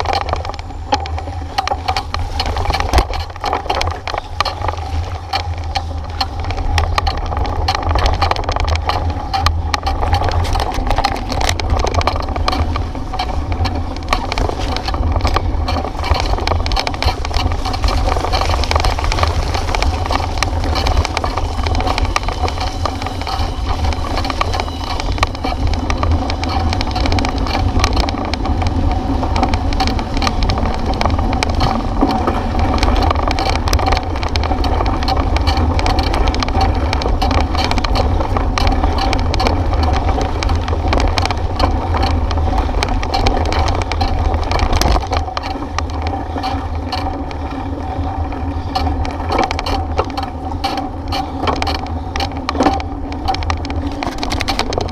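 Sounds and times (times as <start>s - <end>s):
bicycle rumbling on rough road: 0.0s - 54.9s
bike rattling and knocking: 0.0s - 54.9s.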